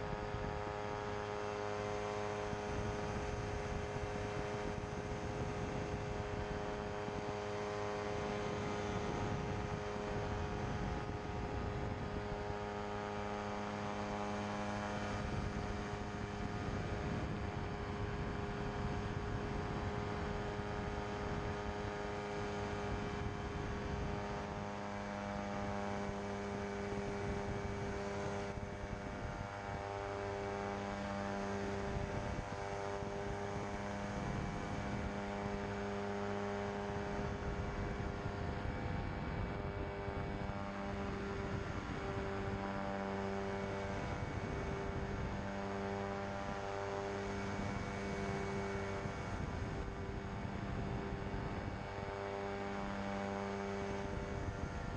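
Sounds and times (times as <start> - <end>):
aircraft engine and propeller drone: 0.0 - 54.9.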